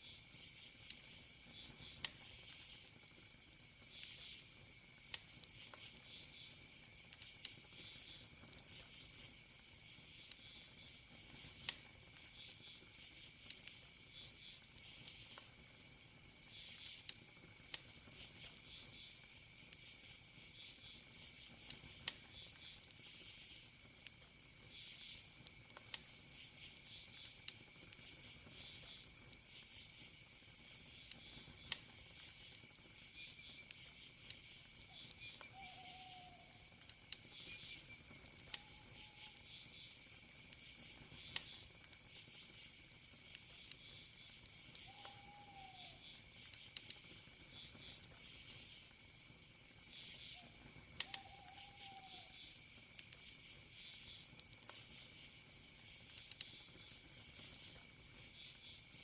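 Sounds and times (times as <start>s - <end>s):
campfire crackling: 0.0s - 59.0s
cricket chirps: 0.0s - 59.0s
insect trill: 0.0s - 59.0s.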